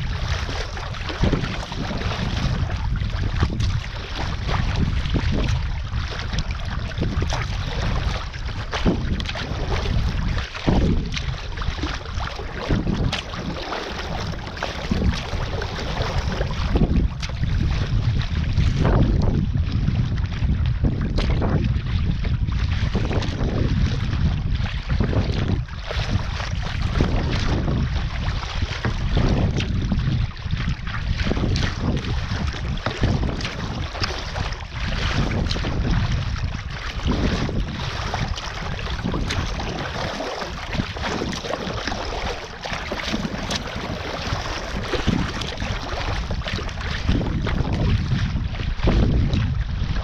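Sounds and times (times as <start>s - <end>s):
water slapping against kayak hull: 0.0s - 50.0s
wind buffeting microphone: 0.0s - 50.0s.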